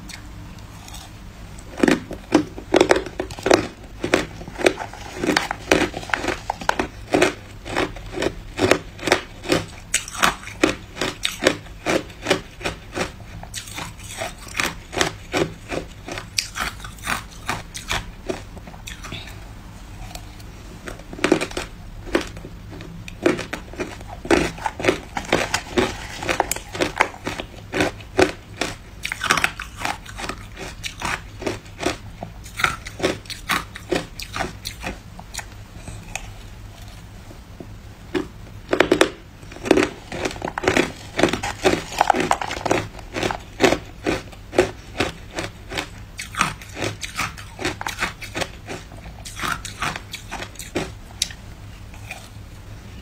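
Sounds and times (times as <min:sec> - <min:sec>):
ice crunching while chewed: 0:00.1 - 0:19.4, 0:20.0 - 0:37.0, 0:38.2 - 0:52.4.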